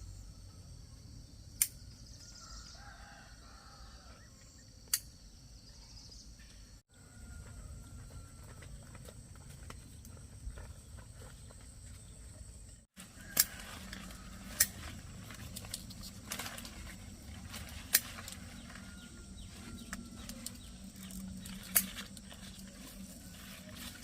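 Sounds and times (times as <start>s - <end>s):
faint outdoor background: 0.0s - 24.0s.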